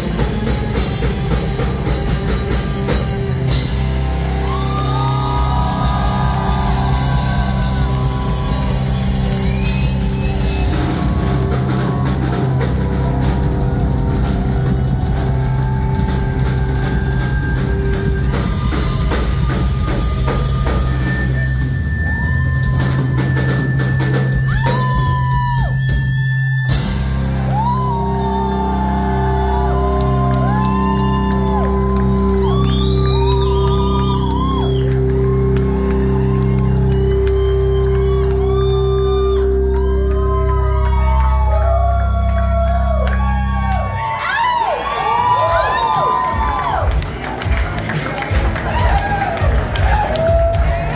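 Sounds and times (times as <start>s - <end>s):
rock band playing live: 0.0s - 44.2s, 44.8s - 50.9s
crowd whooping: 0.0s - 50.9s
loud drums: 0.0s - 50.9s.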